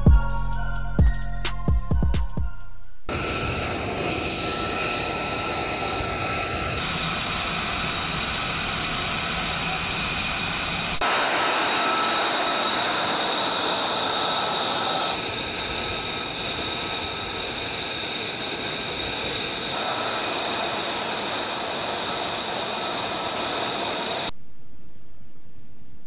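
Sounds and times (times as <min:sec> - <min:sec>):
jet engine whine and hiss: 0:03.0 - 0:24.4.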